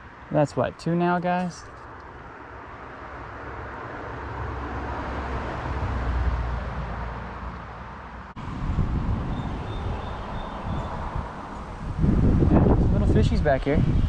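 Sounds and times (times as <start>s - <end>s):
car passing on road: 1.3s - 12.9s.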